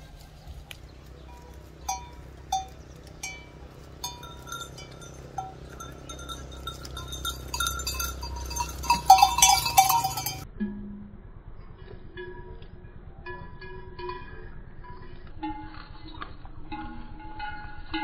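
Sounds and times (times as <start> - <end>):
livestock bell clanking: 1.0 - 10.8, 12.1 - 18.0.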